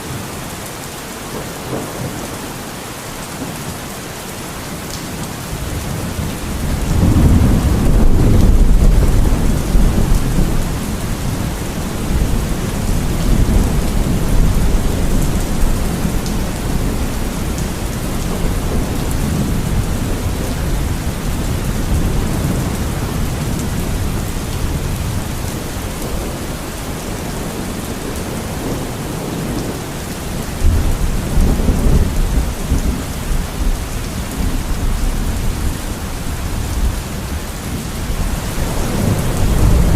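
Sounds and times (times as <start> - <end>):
steady rain falling: 0.0 - 39.9
thunder rumbling: 5.6 - 39.9.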